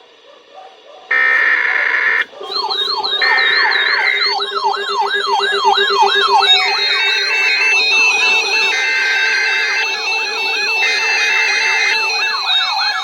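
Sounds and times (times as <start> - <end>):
high warbling siren: 1.1 - 13.0
steady buzzing tone: 1.1 - 13.0
wailing siren: 1.1 - 13.0.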